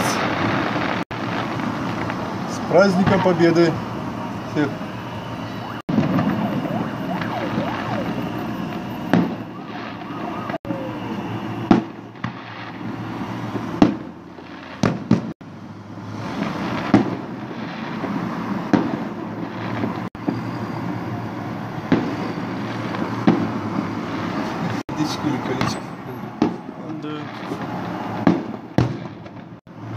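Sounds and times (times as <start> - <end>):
firework bangs: 0.0 - 15.4, 16.0 - 29.9
steady background din: 0.2 - 14.9, 18.6 - 29.6.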